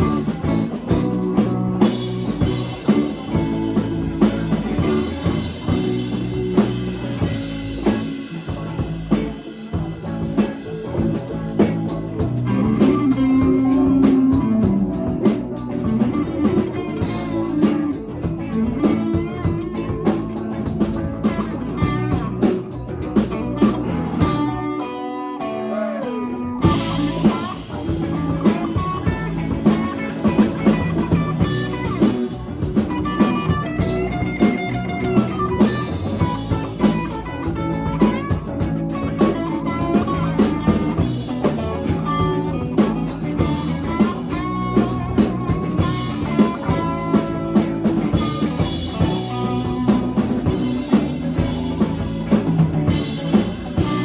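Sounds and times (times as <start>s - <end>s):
drum kit steady beat: 0.0s - 24.6s, 26.6s - 54.0s
electric guitar: 0.0s - 54.0s.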